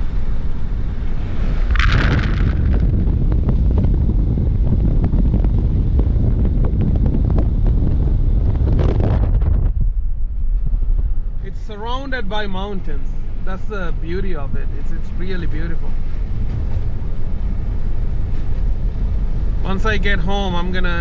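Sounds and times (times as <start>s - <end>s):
heavy tyre rumble: 0.0s - 21.0s
wind rushing over microphone: 0.0s - 21.0s.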